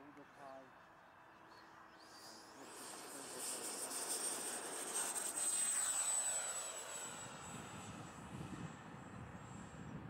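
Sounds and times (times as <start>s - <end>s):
model plane motor whine: 1.5s - 10.0s.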